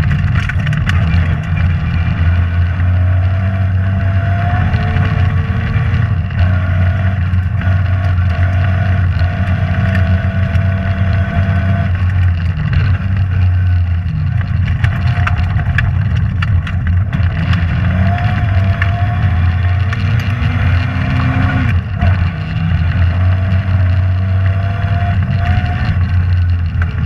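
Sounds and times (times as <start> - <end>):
rally car engine from inside: 0.0 - 27.0.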